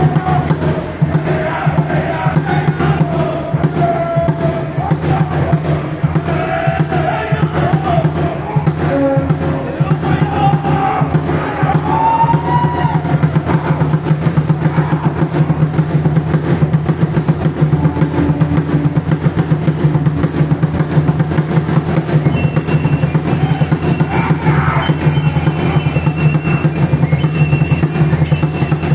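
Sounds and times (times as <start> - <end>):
drums beating fast rhythm: 0.0 - 28.9.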